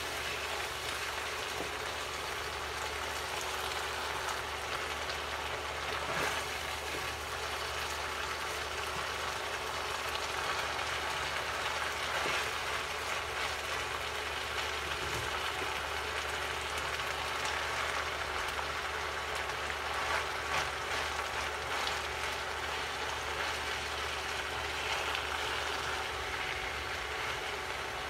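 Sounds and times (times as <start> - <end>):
cabbage sizzling in frying pan: 0.0 - 28.0.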